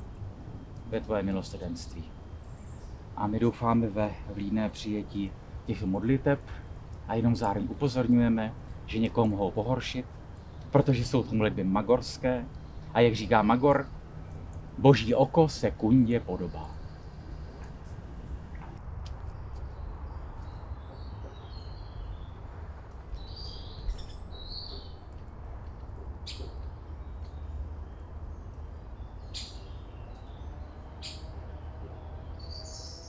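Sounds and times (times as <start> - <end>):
distant city rumble: 0.0 - 33.0
birds chirping and calling: 0.7 - 25.1, 26.2 - 33.0.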